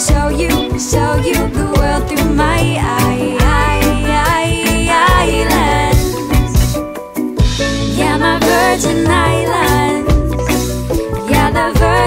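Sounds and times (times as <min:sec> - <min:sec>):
woman singing pop song: 0:00.0 - 0:06.7, 0:07.8 - 0:12.0
bass and accompaniment: 0:00.0 - 0:12.0.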